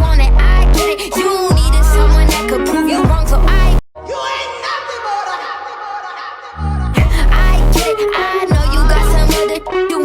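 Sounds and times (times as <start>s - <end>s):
hip hop music with heavy bass: 0.0s - 10.0s
vocals over music: 0.0s - 10.0s.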